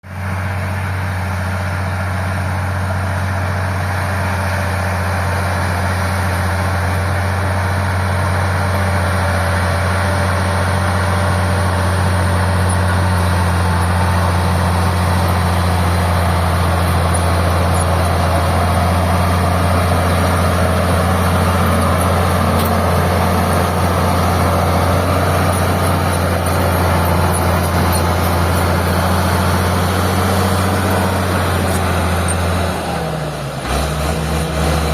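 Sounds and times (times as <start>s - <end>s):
diesel engine rumbling: 0.0s - 34.9s.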